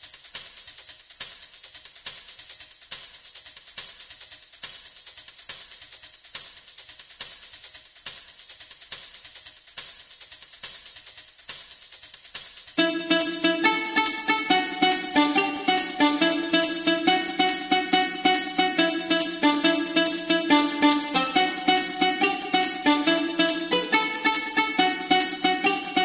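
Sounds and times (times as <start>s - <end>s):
tambourine shaken in rhythm: 0.0s - 26.0s.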